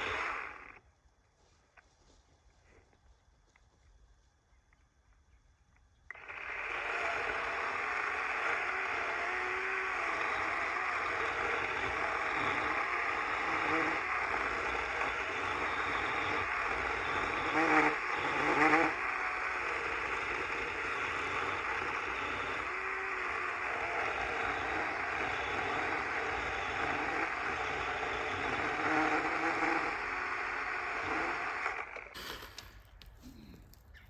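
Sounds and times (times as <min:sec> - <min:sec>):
battery chainsaw cutting tree trunk: 0:00.0 - 0:00.8, 0:06.1 - 0:34.0.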